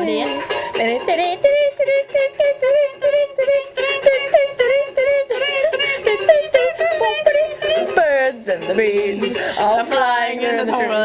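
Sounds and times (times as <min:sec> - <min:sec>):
high-pitched voice singing: 0:00.0 - 0:09.2.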